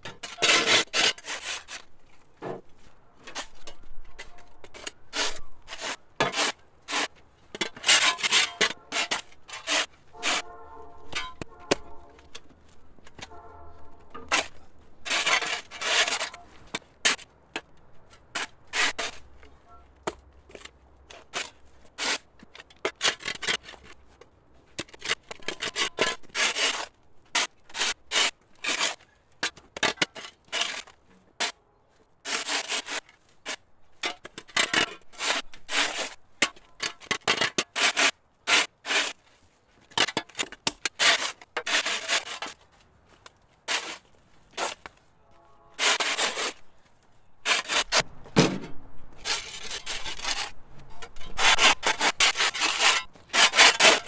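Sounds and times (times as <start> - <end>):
hand tool scraping: 0.0 - 17.3, 24.7 - 31.6, 32.2 - 45.1, 45.7 - 48.1, 49.1 - 54.0.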